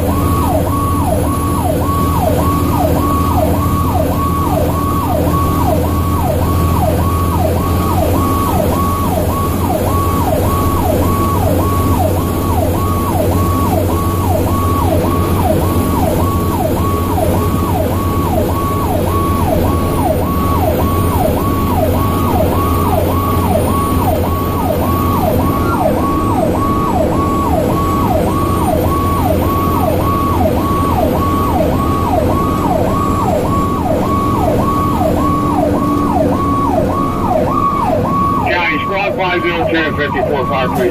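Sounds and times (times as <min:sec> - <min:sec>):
electronic siren yelping: 0:00.0 - 0:40.9
truck engine and tyres droning: 0:00.0 - 0:40.9.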